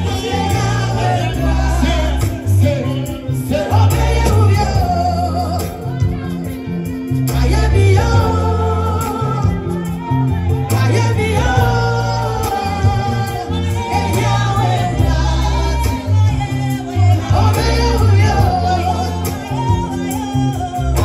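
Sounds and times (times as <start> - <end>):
band with strong bass line: 0.0 - 21.0
voices singing gospel song: 0.0 - 21.0.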